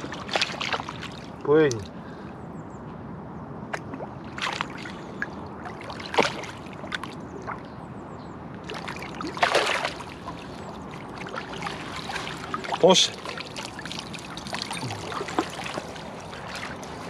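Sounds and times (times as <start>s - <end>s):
lake water sloshing: 0.0s - 2.2s, 3.7s - 7.8s, 8.6s - 17.0s
short water splashes: 0.0s - 2.2s, 3.7s - 7.7s, 8.6s - 17.0s.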